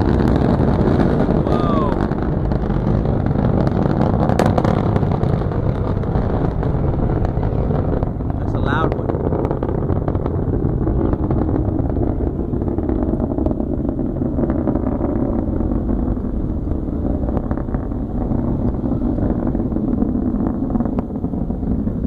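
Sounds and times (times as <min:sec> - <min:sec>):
distant rocket engine rumble: 0:00.0 - 0:22.0.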